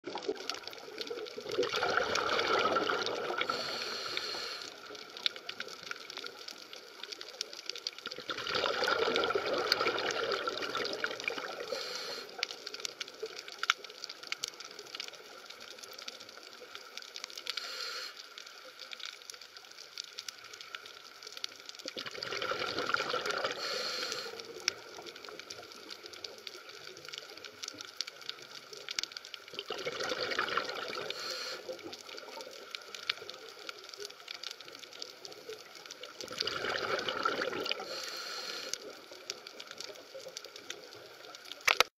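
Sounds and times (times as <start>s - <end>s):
water bubbling underwater: 0.0s - 17.2s, 20.9s - 41.9s
faint crackle of clicks: 0.0s - 41.9s.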